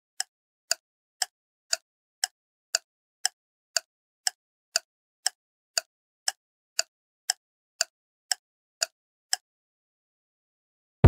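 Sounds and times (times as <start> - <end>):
clock ticking clicks: 0.0 - 9.4.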